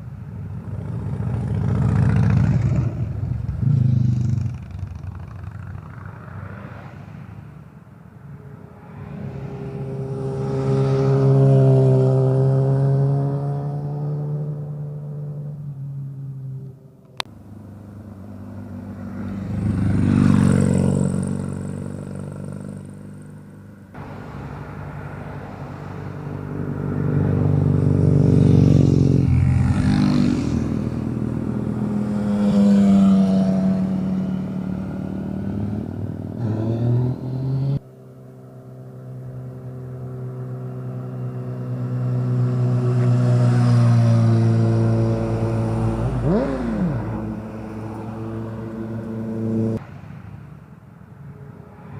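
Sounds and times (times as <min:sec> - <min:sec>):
motorcycles riding past: 0:00.0 - 0:51.9.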